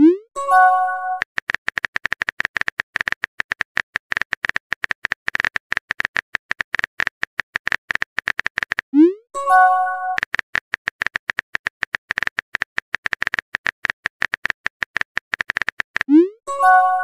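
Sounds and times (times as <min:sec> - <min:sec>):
keyboard typing clicks: 0:00.4 - 0:17.0.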